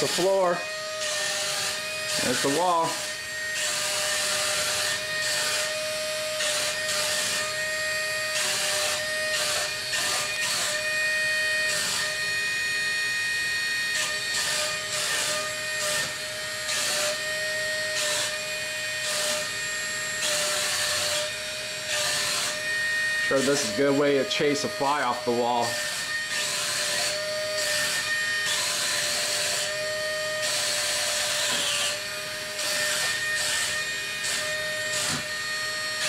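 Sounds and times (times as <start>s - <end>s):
small drive motors buzzing: 0.0s - 36.0s.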